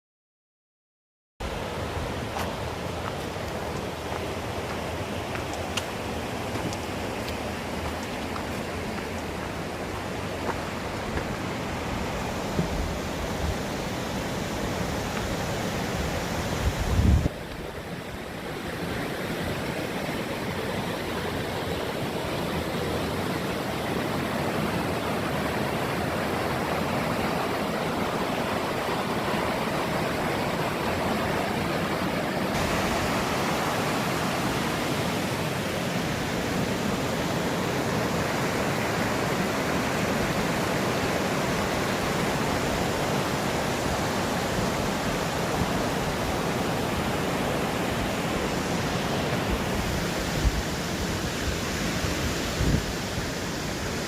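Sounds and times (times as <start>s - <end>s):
stream water rushing: 1.4s - 54.0s.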